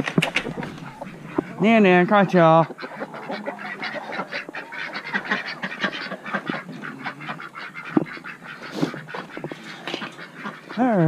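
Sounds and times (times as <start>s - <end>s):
ducks calling: 0.0s - 11.0s.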